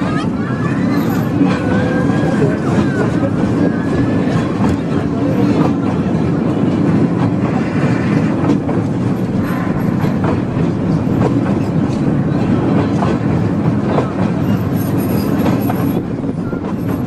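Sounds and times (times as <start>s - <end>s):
toy train rumbling: 0.0s - 17.0s
wheels clicking over rails: 0.0s - 17.0s.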